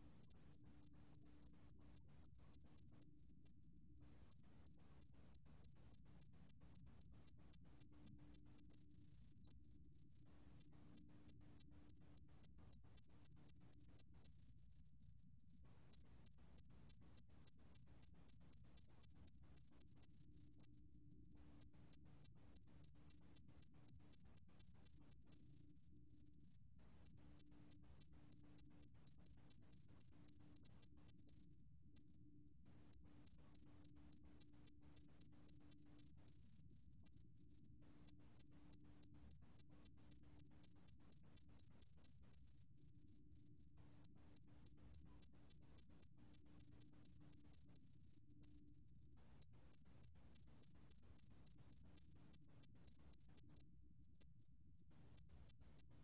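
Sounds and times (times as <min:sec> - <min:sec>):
cricket chirping and trilling: 0:00.2 - 0:56.0.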